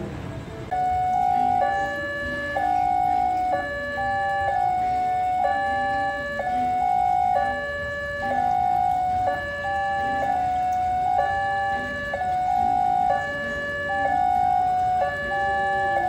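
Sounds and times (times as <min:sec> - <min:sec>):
electronic two-tone alarm: 0:00.7 - 0:16.0.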